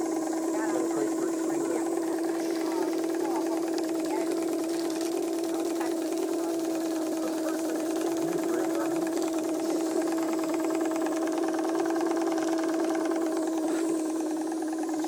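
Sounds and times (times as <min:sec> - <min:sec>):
steam engine running: 0:00.0 - 0:15.0.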